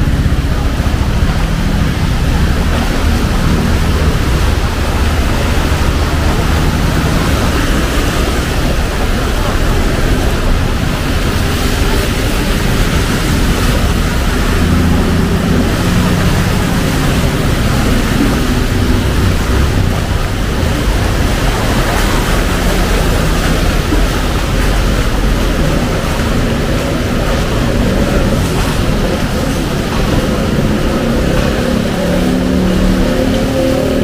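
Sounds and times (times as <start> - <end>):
heavy rain: 0.0 - 34.0
passing vehicles engine hum: 0.0 - 34.0.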